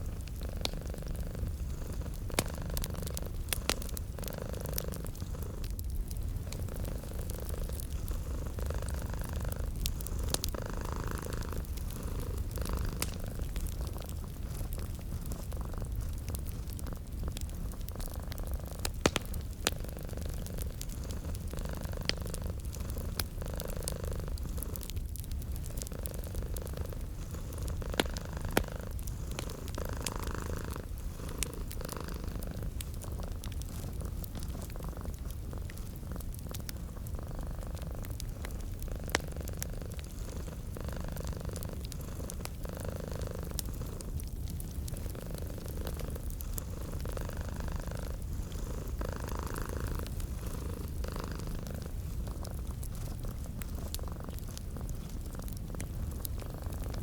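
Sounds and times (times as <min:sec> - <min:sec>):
cat purring: 0:00.0 - 0:57.0
wood fire crackling and popping: 0:00.0 - 0:57.0.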